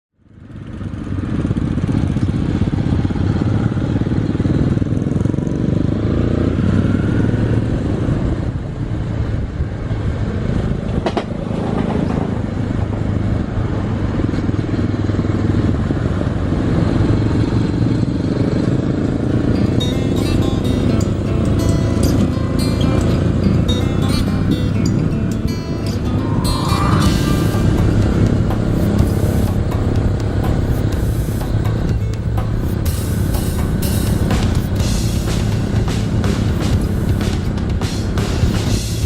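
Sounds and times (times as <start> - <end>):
motorcycle engine droning: 0.2 - 39.0.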